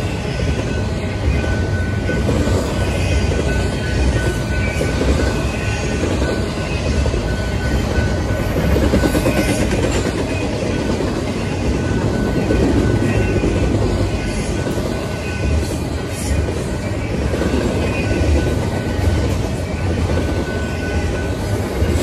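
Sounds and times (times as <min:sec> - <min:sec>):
freight train rattling on rails: 0:00.0 - 0:22.0.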